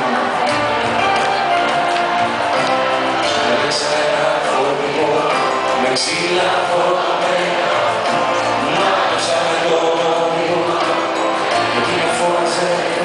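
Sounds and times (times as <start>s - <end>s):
live pop song with band: 0.0s - 13.0s.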